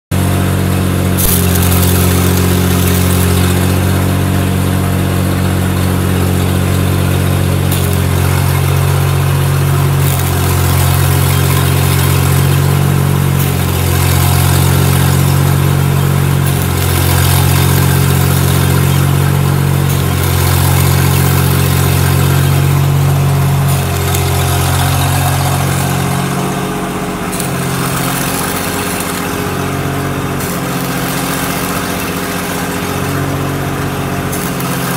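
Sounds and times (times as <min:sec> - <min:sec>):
low hum: 0:00.2 - 0:34.9
welding arc crackling: 0:00.2 - 0:34.9.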